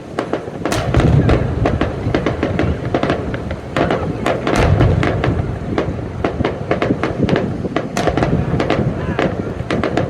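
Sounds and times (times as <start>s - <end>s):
deep rumble of bursting shells: 0.0s - 10.0s
fireworks cracking and popping: 0.0s - 10.0s.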